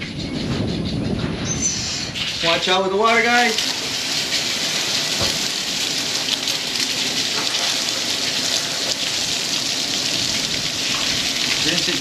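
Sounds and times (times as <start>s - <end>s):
hose spraying onto metal table: 1.7s - 12.0s.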